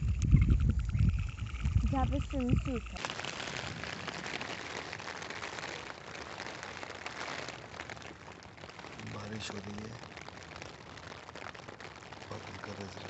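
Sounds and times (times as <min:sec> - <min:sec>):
rain pattering on tent: 0:00.0 - 0:13.0.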